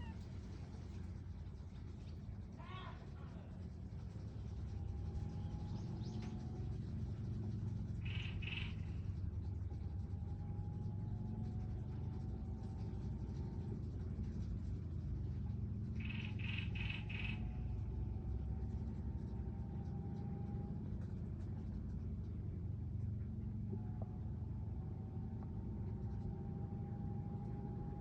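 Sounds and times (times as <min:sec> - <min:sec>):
low outdoor background rumble: 0:00.0 - 0:28.0.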